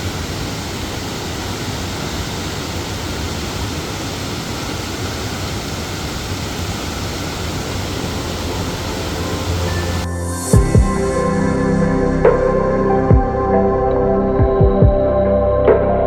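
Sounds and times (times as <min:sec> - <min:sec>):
rushing water roar: 0:00.0 - 0:13.1.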